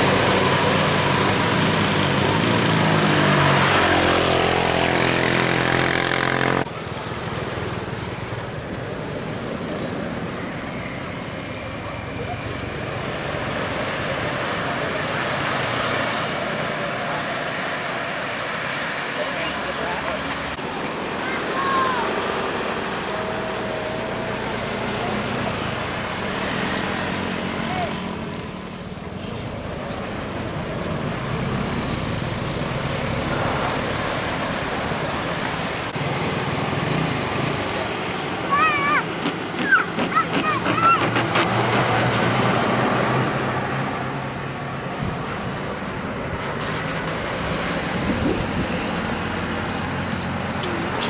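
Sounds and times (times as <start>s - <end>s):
vehicle engine and tyre noise: 0.0s - 51.0s.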